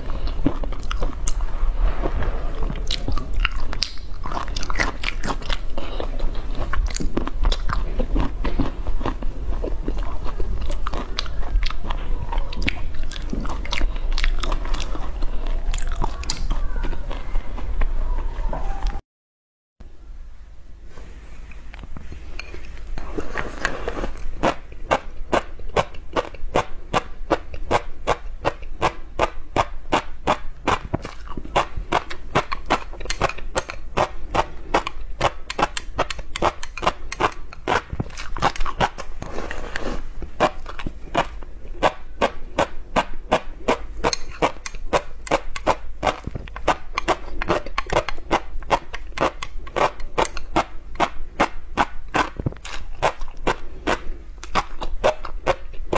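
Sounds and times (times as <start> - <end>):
low steady hum: 0.0 - 19.0, 19.8 - 55.9.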